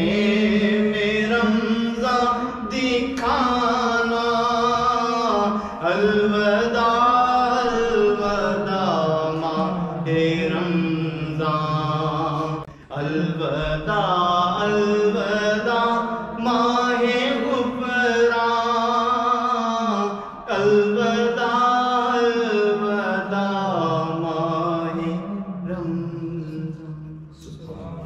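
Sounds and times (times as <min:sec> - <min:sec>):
man singing unaccompanied: 0:00.0 - 0:28.0.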